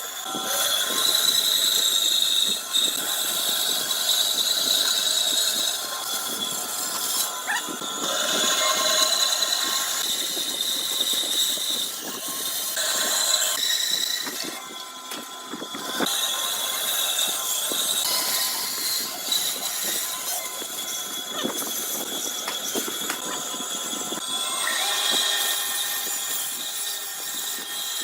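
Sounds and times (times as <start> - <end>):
woodworking machine hissing and whining: 0.0 - 28.0.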